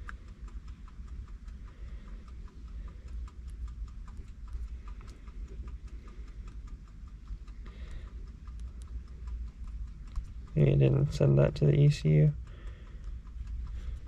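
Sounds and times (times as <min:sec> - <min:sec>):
fast even ticking: 0:00.0 - 0:14.0
low steady rumble: 0:00.0 - 0:14.0.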